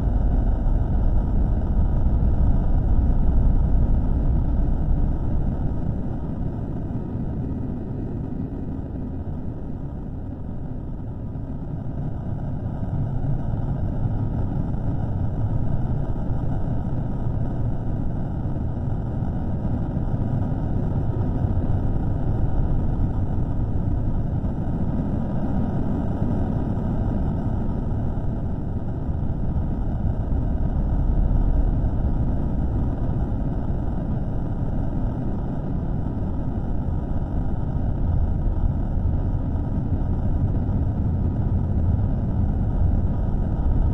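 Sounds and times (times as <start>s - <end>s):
low rumbling noise: 0.0s - 43.9s.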